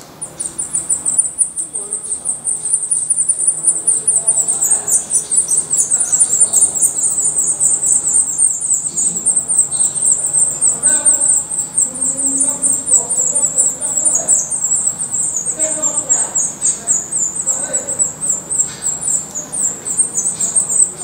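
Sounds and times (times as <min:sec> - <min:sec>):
nestlings begging calls: 0:00.0 - 0:21.0.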